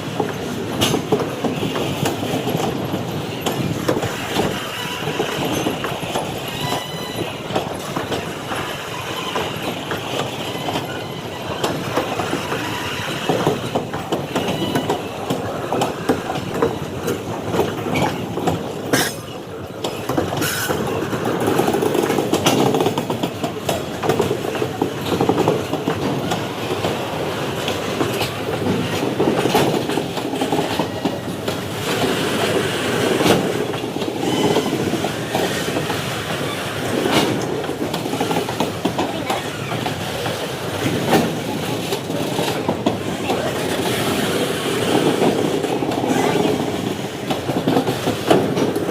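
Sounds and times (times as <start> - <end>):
freight train rumbling past: 0.0 - 48.9
wheels clattering over rail joints: 0.0 - 48.9.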